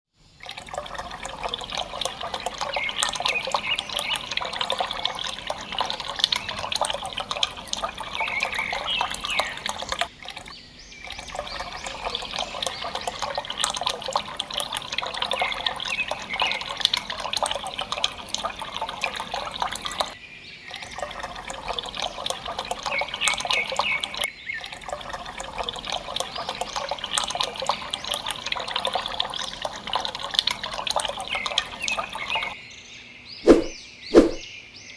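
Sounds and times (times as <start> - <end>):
running water splashing: 0.4 - 32.6, 33.5 - 34.4.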